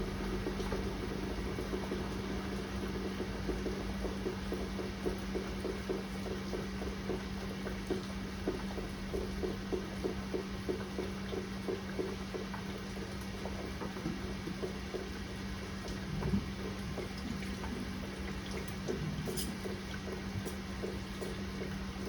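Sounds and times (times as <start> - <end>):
steady low hum: 0.0 - 22.0
water drops pattering: 0.3 - 22.0.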